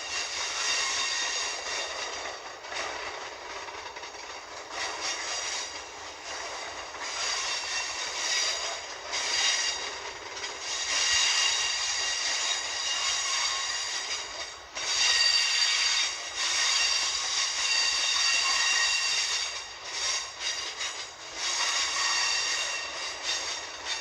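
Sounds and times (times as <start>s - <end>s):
train rumble: 0.0s - 24.0s
train wheels squealing on rails: 0.0s - 24.0s.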